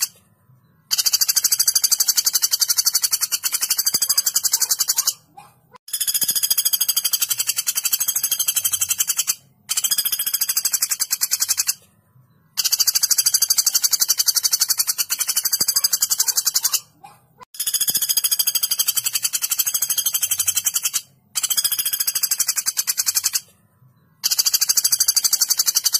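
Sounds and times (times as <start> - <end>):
woodpecker rattling trills: 0.0 - 0.2, 0.8 - 11.8, 12.5 - 17.0, 17.6 - 23.5, 24.2 - 25.9.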